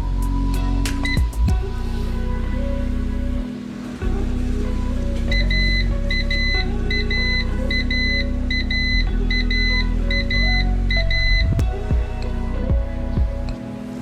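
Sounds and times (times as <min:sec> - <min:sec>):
low synth notes: 0:00.0 - 0:14.0.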